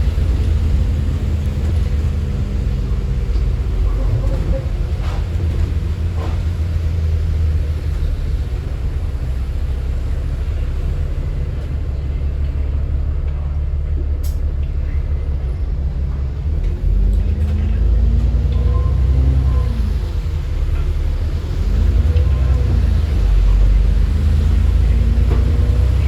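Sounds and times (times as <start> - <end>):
bus engine rumbling: 0.0 - 26.0.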